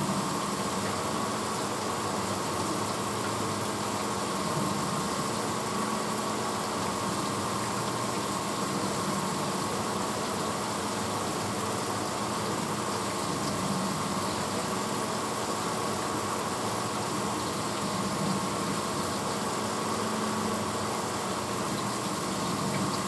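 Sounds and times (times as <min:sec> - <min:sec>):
dishwasher running: 0:00.0 - 0:23.0.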